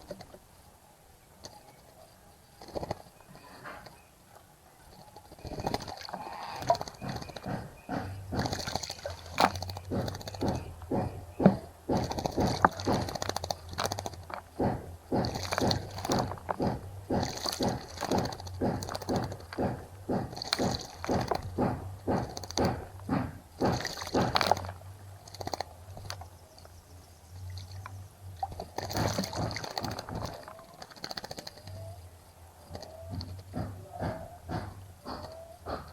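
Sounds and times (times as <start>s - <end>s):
bird splashing in water: 4.9s - 26.8s, 27.4s - 35.9s.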